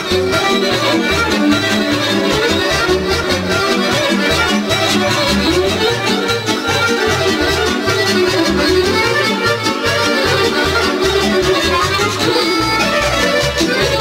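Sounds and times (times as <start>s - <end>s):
accordion: 0.0s - 14.0s
pulsing bass beat: 0.0s - 14.0s.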